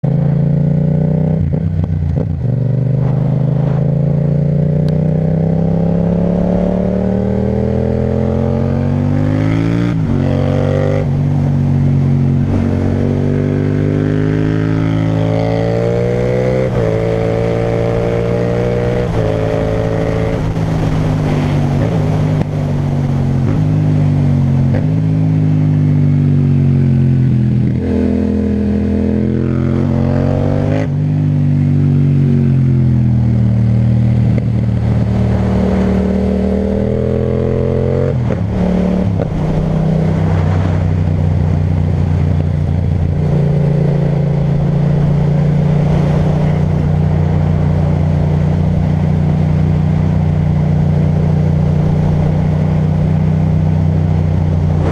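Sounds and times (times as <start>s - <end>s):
motorcycle engine accelerating: 0.0s - 54.9s
wind and road rumble: 0.0s - 54.9s.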